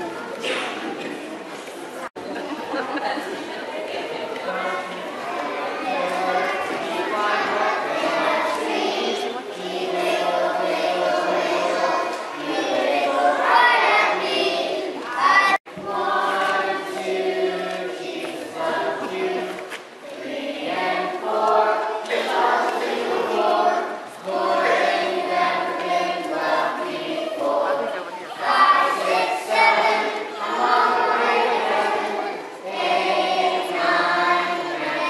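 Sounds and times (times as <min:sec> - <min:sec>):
children singing: 0:04.6 - 0:35.0.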